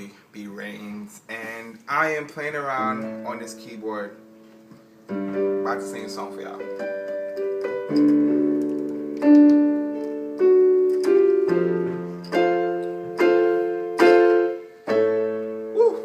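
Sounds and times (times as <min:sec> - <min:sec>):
electronic keyboard piano chords: 0:02.4 - 0:16.0.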